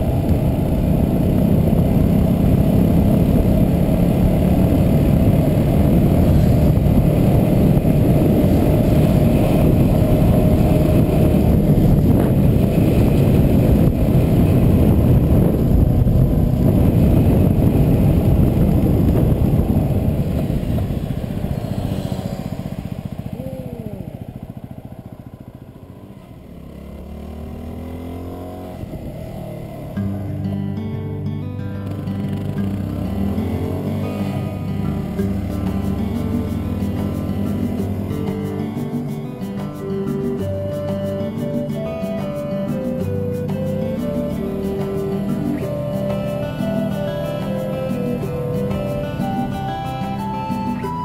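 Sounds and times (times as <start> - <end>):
music: 0.0 - 21.6, 28.8 - 51.0
motorcycle engine running: 0.0 - 51.0.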